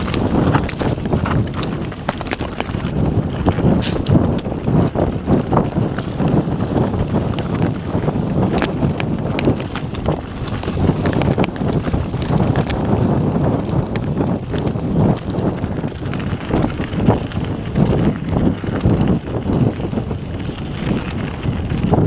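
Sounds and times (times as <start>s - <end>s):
bike rattling with sharp clicks: 0.0s - 22.0s
tyres rolling over loose stones: 0.0s - 22.0s
wind buffeting microphone: 0.0s - 22.0s.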